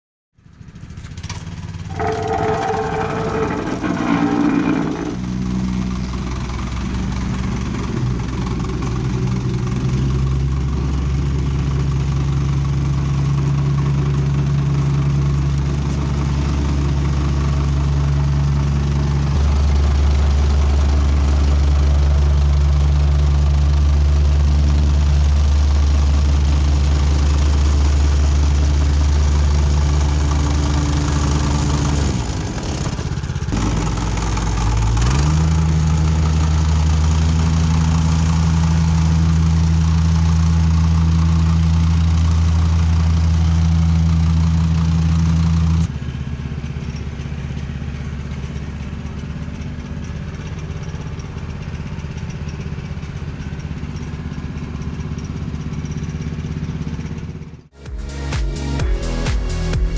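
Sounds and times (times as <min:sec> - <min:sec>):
diesel engine running: 0:00.5 - 0:59.9.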